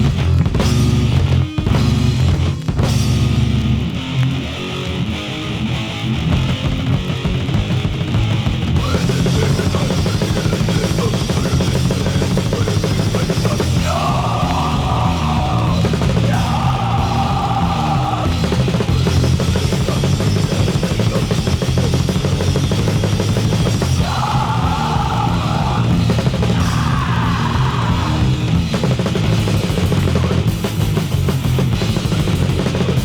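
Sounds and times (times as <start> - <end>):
heavy rock band playing: 0.0 - 33.0.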